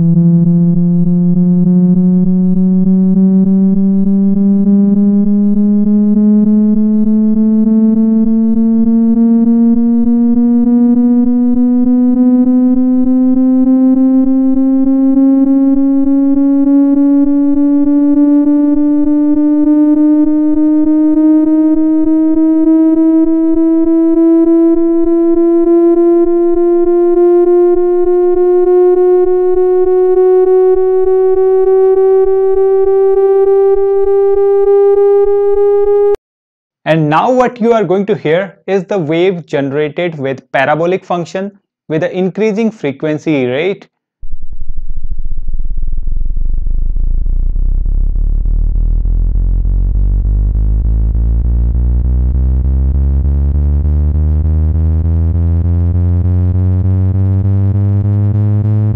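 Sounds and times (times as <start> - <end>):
buzzy synthetic tone rising in pitch: 0.0 - 36.2, 43.2 - 58.9.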